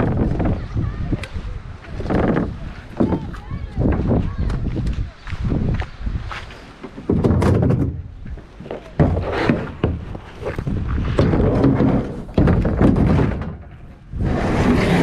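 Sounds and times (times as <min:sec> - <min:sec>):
kayak rubbing and scraping: 0:00.0 - 0:15.0.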